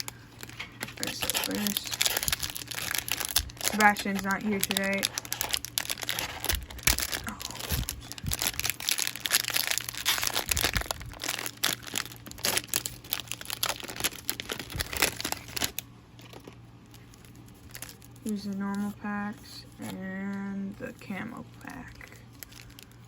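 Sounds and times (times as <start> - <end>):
plastic wrapping tearing and crinkling: 0.0 - 19.0, 21.8 - 23.0.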